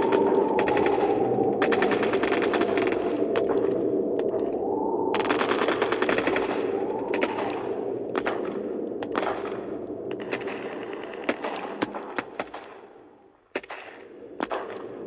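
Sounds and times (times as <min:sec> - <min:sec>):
steady low rumble: 0:00.0 - 0:13.5.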